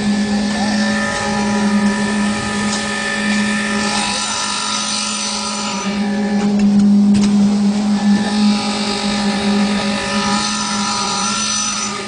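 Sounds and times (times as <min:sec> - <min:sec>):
concrete pump humming: 0:00.0 - 0:12.0.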